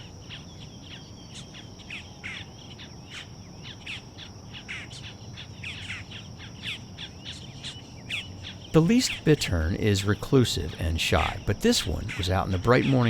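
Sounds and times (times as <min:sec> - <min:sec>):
birds chirping: 0:00.0 - 0:13.0
insect buzz: 0:00.0 - 0:13.0.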